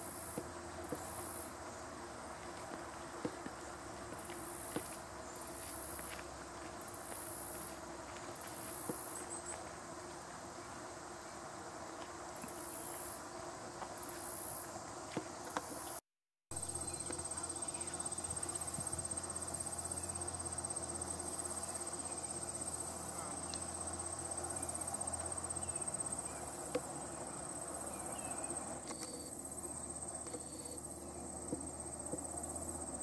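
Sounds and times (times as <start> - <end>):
insects buzzing and trilling: 0.0 - 33.0.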